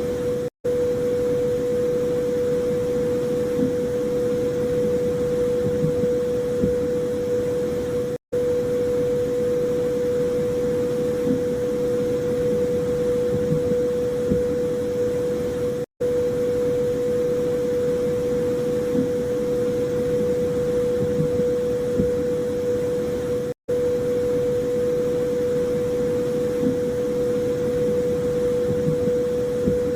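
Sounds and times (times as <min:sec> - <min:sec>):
electronic hum: 0:00.0 - 0:29.9.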